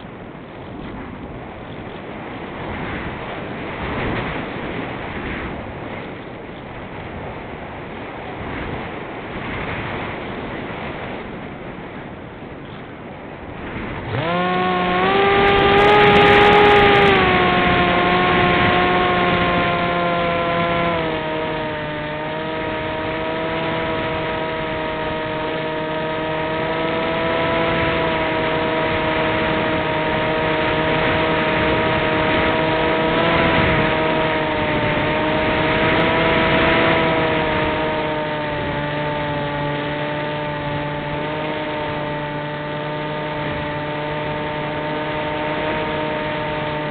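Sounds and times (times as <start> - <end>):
model airplane motor and propeller: 0.0 - 46.9.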